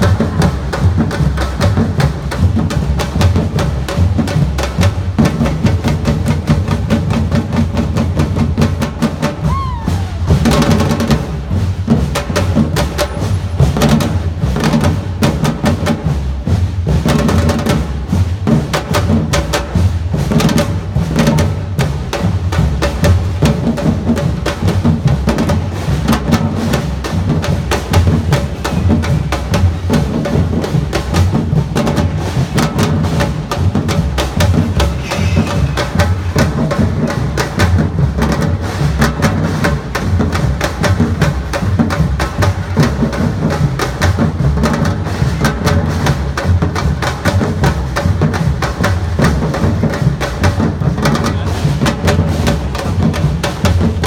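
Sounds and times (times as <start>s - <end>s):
drum band playing: 0.0s - 54.0s.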